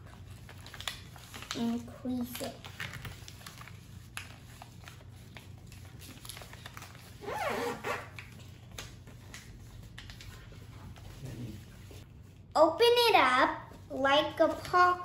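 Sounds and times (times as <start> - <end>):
paper folding and creasing: 0.0 - 12.4.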